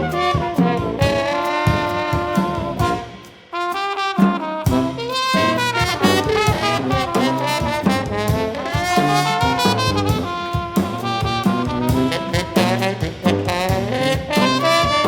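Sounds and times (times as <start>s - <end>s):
brass band playing jazz: 0.0s - 15.0s
drum kit: 0.0s - 15.0s
trombone: 0.0s - 15.0s
trumpet: 0.0s - 15.0s.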